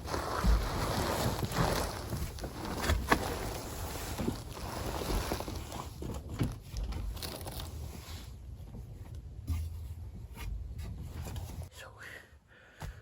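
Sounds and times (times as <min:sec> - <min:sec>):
rustling and scraping of crawling: 0:00.0 - 0:11.7.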